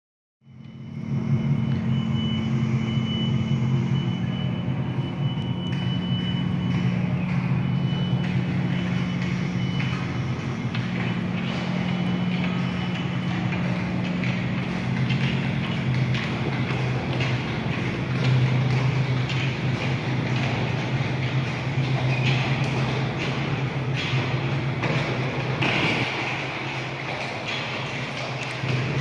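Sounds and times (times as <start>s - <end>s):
low droning hum: 0.4s - 29.0s.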